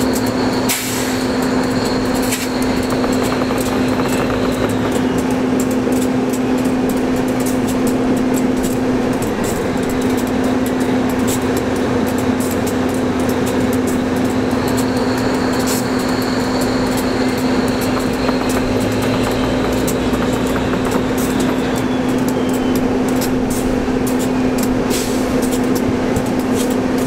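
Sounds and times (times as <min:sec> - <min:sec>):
diesel locomotive idling: 0:00.0 - 0:27.0.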